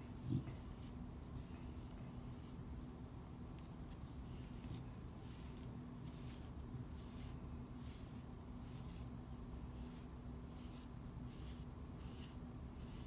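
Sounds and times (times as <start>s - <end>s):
brush swishing through fur: 0.0s - 2.6s, 3.7s - 13.0s.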